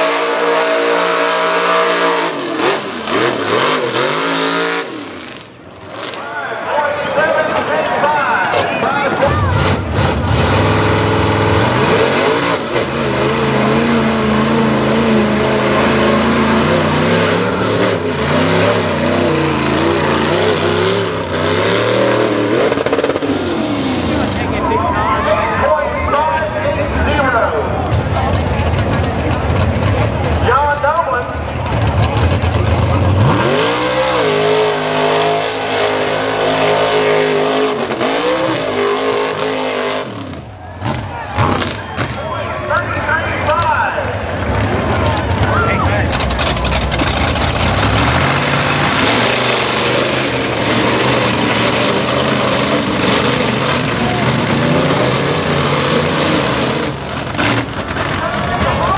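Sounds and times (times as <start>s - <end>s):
car engine revving: 0.0s - 6.5s, 8.4s - 24.8s, 31.2s - 58.9s
tires spinning in mud: 0.0s - 58.9s.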